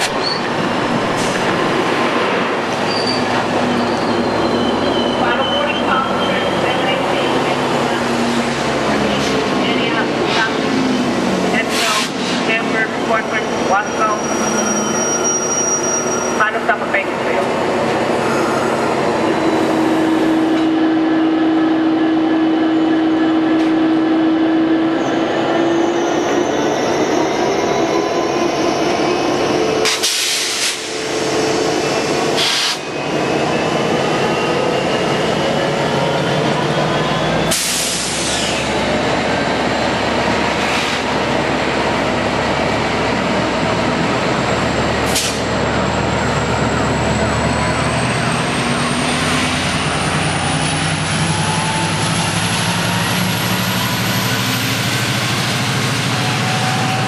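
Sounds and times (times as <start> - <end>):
locomotive engine drone: 0.0 - 57.0.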